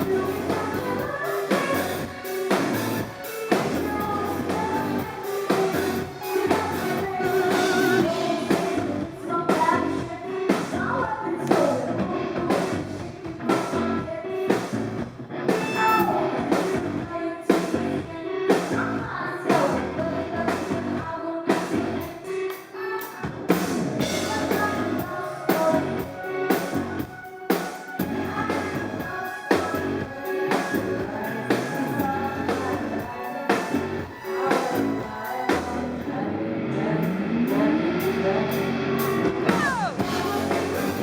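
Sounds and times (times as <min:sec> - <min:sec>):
person singing: 0:00.0 - 0:14.6, 0:15.5 - 0:41.0
keyboards: 0:00.0 - 0:17.1, 0:23.5 - 0:41.0
drums: 0:00.0 - 0:41.0
guitar: 0:00.0 - 0:41.0.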